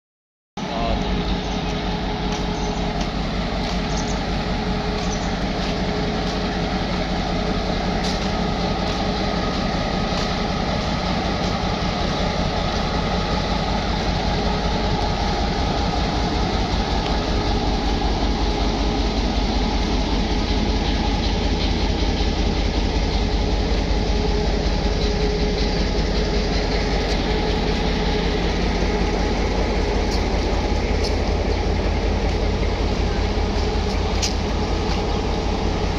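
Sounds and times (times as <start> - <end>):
diesel locomotive idling throb: 0.6 - 35.9.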